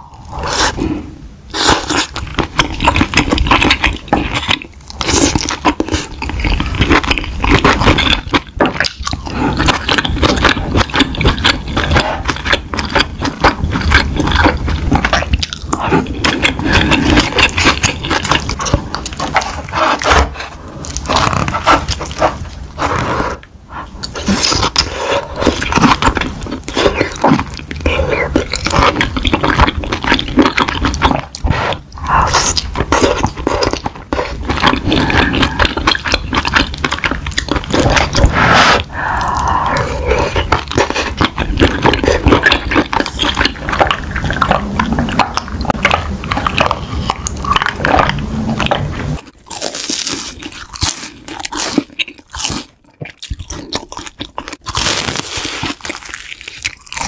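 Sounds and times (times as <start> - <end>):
wet chewing and smacking: 1.5 - 57.0.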